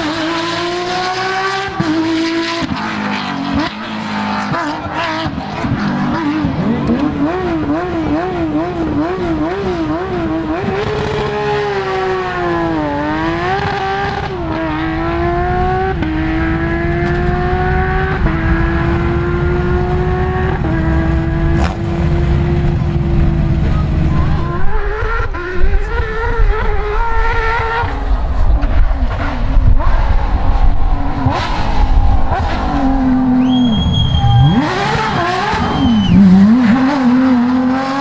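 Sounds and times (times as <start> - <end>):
approaching rally car engine: 0.0 - 38.0
rally car engine revving and accelerating: 0.0 - 38.0.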